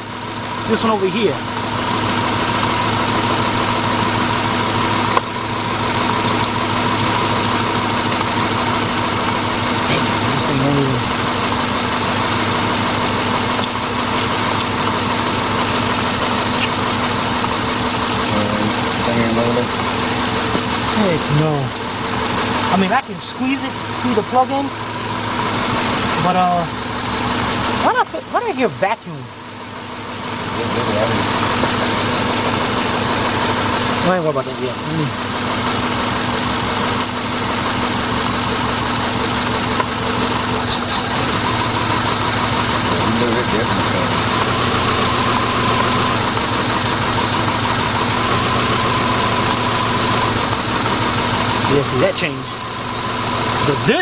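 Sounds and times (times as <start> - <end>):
car engine idling with misfire: 0.0 - 54.0.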